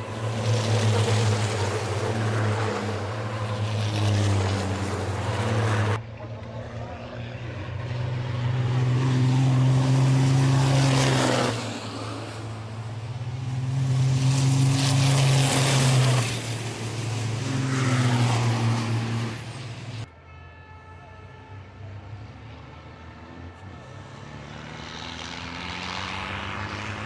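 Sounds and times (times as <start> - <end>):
racing trucks driving past: 0.0 - 20.1, 21.6 - 27.0.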